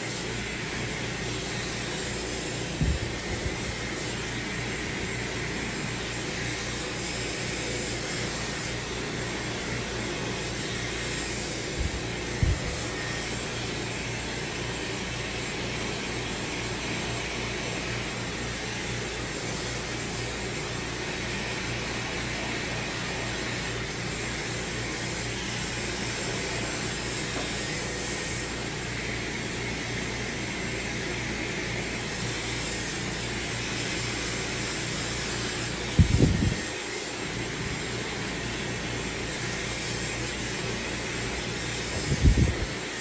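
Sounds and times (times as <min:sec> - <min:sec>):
hair dryer blowing: 0:00.0 - 0:43.0.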